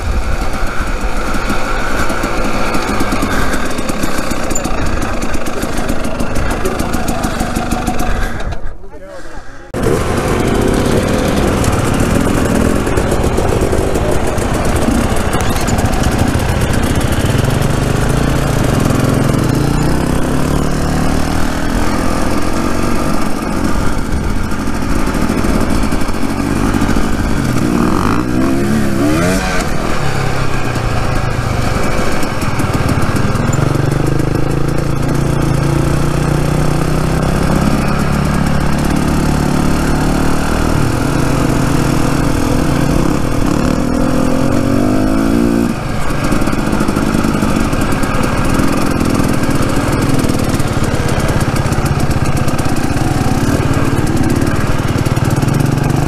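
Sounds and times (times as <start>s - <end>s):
dirt bike engine revving: 0.0s - 8.6s, 9.7s - 56.0s.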